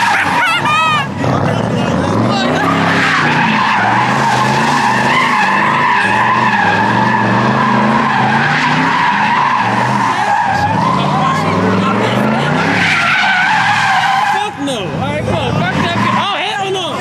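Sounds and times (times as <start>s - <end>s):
car engine at high revs: 0.0s - 17.0s
tyres squealing: 0.0s - 17.0s.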